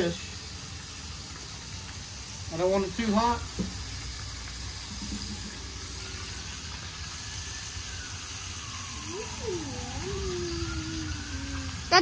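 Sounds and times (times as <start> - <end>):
food frying in grease: 0.0 - 12.0
gas burner hissing: 0.0 - 12.0.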